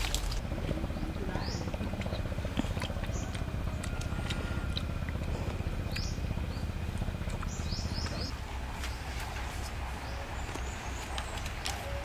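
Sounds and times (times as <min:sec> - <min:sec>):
low rumble: 0:00.0 - 0:11.7
birds chirping: 0:00.0 - 0:12.0.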